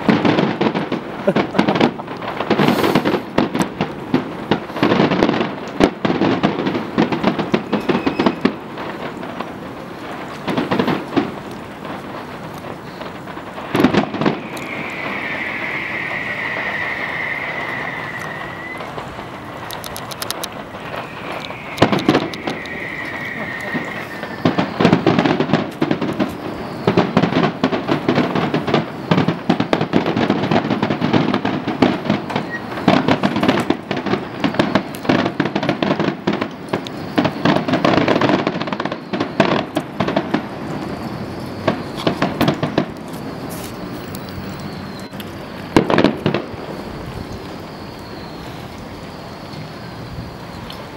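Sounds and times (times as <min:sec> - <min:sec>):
firework bangs: 0:00.0 - 0:50.9
fireworks crackling: 0:00.0 - 0:50.9
whistling rockets: 0:00.0 - 0:50.9.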